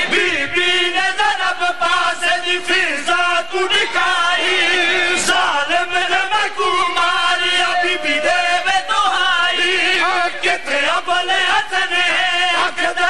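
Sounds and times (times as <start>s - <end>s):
man chanting a sung lament: 0.0s - 13.0s.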